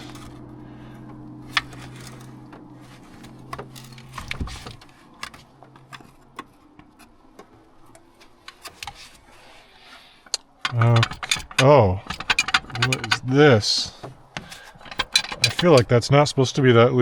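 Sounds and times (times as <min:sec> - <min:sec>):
metal tools clicking and tapping: 0:00.0 - 0:09.2, 0:10.3 - 0:16.1
low steady hum: 0:00.0 - 0:17.0.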